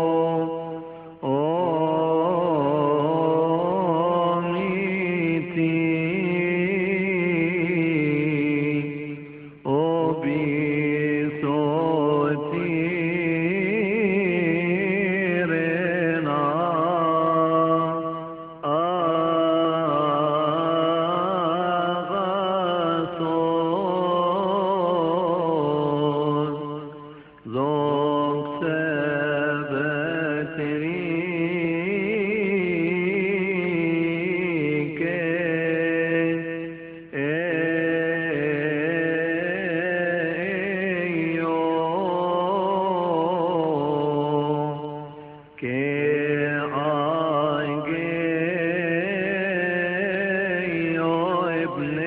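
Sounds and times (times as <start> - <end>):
man chanting a hymn: 0.0 - 52.0.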